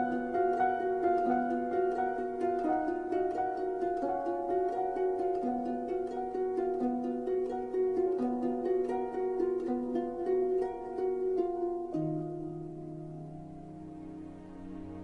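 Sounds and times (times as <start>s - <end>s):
plucked-string music: 0.0s - 15.0s.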